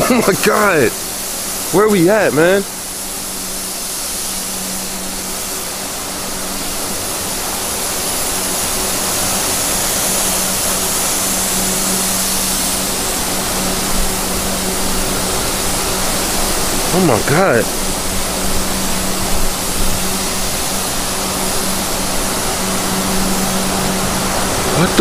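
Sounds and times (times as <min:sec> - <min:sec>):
conveyor belts running: 0:00.0 - 0:25.0.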